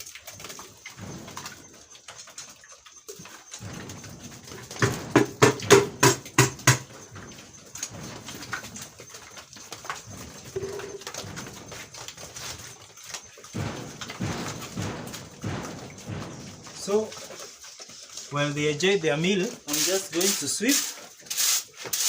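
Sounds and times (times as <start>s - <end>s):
pigs grunting: 0.0s - 19.9s.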